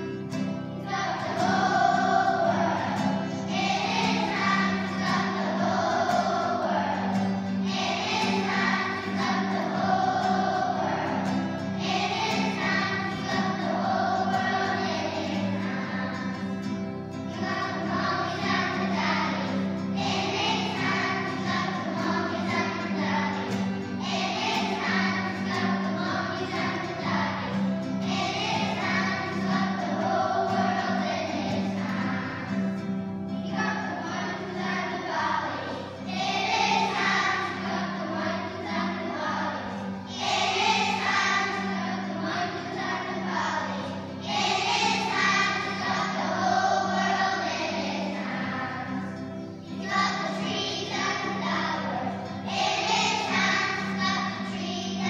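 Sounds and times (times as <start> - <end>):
children singing in unison: 0.0 - 55.0.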